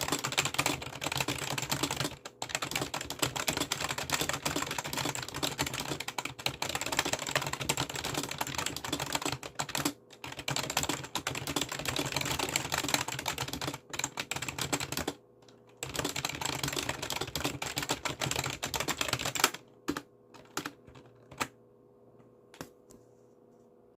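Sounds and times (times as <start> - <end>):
fast keyboard typing: 0.0 - 21.6.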